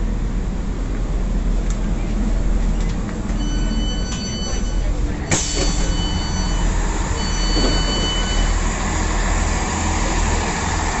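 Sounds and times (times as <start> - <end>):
train rumbling and rushing: 0.0 - 11.0.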